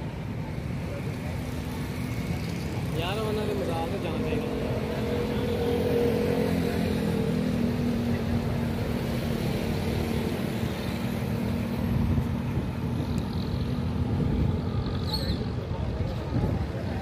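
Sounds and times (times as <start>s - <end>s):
motorcycles and car passing: 0.1s - 17.0s.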